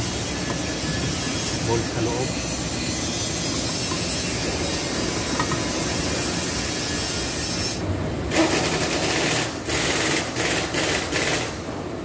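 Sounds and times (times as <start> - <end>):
steady background rush: 0.0 - 12.0.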